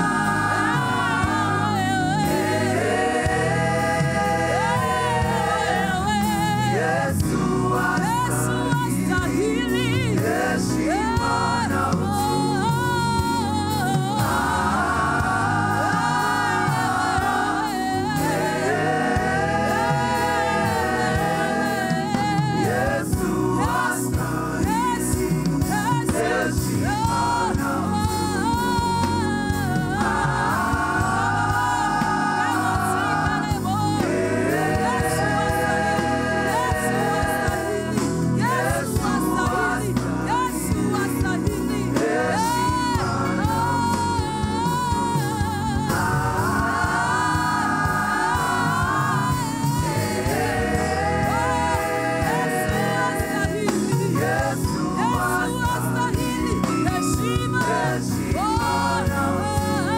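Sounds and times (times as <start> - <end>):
instrumental backing: 0.0 - 59.9
voices singing with vibrato: 0.0 - 59.9.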